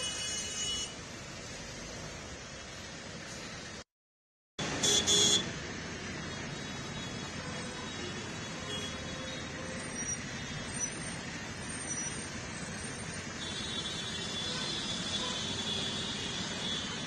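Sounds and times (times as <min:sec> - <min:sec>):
engine and traffic noise: 0:00.0 - 0:03.9, 0:04.6 - 0:17.0.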